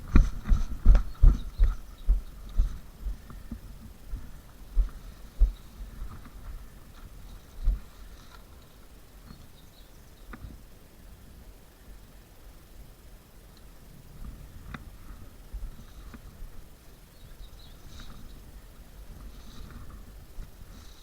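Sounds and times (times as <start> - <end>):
faint background hiss: 0.0 - 21.0.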